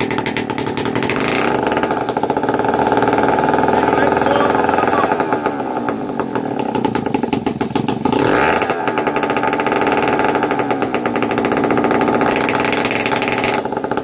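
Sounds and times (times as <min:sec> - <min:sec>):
two-stroke engine running unevenly: 0:00.0 - 0:14.0.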